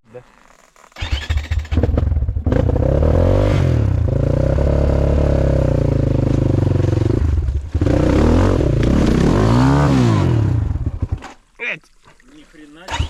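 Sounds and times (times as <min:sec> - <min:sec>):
motorcycle engine revving: 0:00.6 - 0:11.3.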